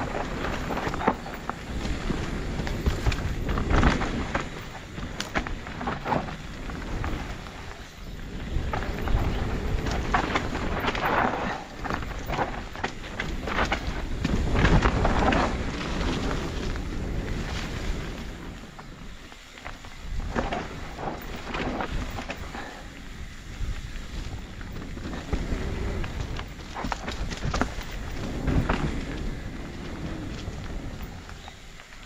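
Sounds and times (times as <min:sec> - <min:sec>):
bike rattling: 0:00.0 - 0:32.0
bike tyres rolling on dirt: 0:00.0 - 0:32.0
wind on microphone: 0:00.0 - 0:32.0.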